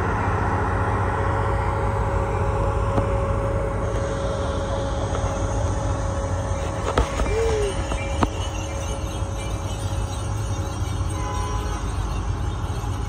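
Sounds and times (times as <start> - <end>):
faint steady whine: 0.0 - 13.0
train wheels rumbling on rail: 0.0 - 13.0.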